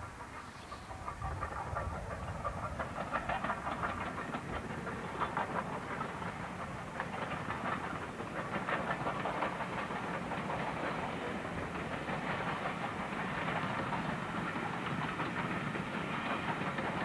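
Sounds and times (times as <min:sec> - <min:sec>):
steam locomotive exhaust beats: 0:00.0 - 0:17.0
wheels rumbling on rails: 0:00.0 - 0:17.0.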